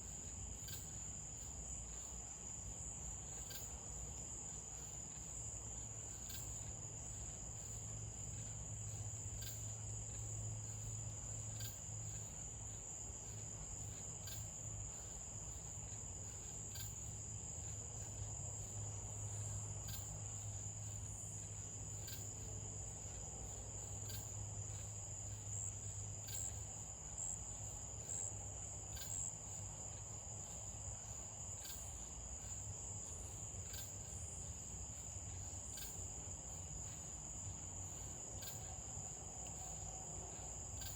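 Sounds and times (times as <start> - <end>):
faint ticks: 0.0 - 2.2, 3.2 - 3.8, 4.7 - 27.3, 28.1 - 29.7, 31.6 - 32.6, 33.6 - 34.2, 35.3 - 36.2, 36.8 - 40.9
crickets trilling: 0.0 - 40.9
low background hum: 0.0 - 40.9.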